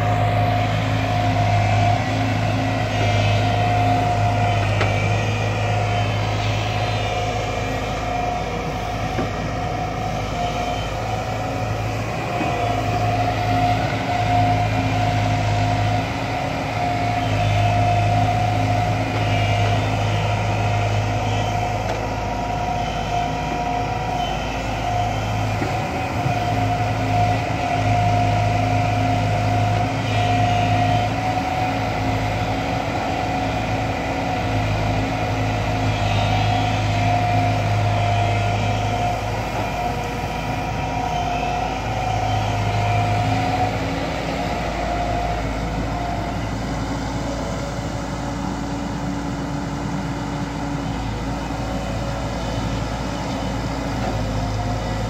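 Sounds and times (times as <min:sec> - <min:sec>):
excavator diesel engine: 0:00.0 - 0:55.0
high hydraulic whine: 0:00.0 - 0:55.0.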